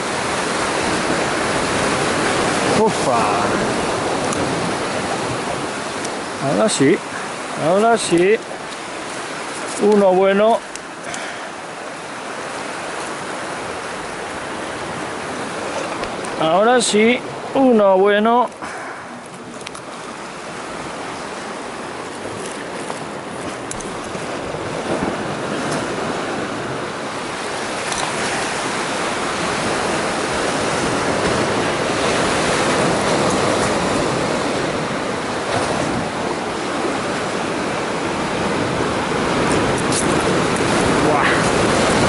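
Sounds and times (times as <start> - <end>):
surf breaking on rocky shore: 0.0 - 42.0.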